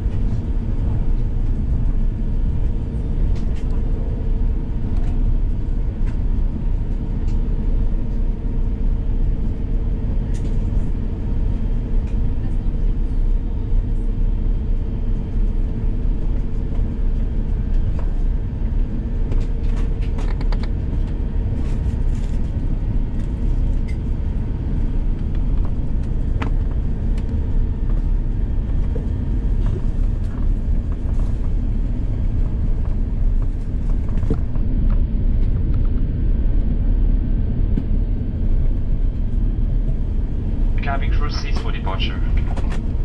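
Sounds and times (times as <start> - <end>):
aircraft cabin low rumble: 0.0 - 43.0
faint steady hum: 0.0 - 43.0.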